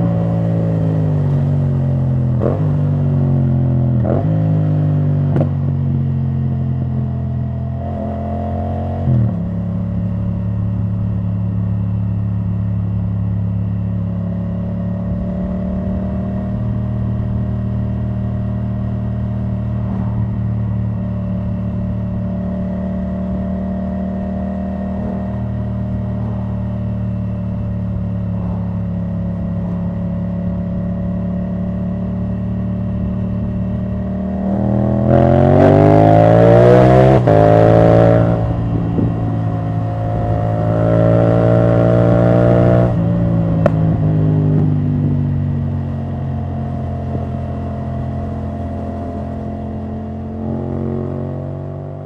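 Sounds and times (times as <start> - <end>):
motorcycle engine revving and idling: 0.0 - 52.0.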